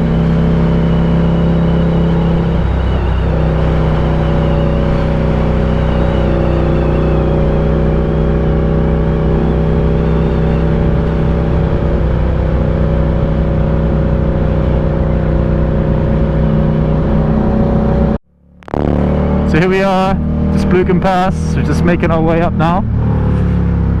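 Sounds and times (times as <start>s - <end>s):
motorcycle engine running: 0.0s - 22.3s.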